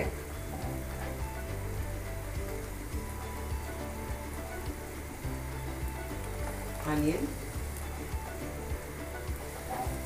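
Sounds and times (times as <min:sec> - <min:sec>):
background music with a beat: 0:00.0 - 0:10.0
garlic sizzling in hot oil: 0:00.0 - 0:10.0.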